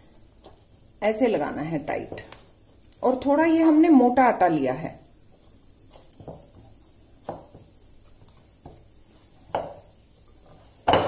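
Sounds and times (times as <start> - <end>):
dough kneading thumps: 0.2 - 11.0.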